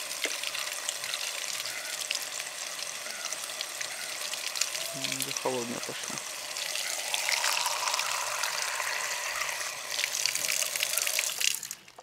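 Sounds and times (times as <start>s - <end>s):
water running into plastic cup: 0.0s - 12.0s.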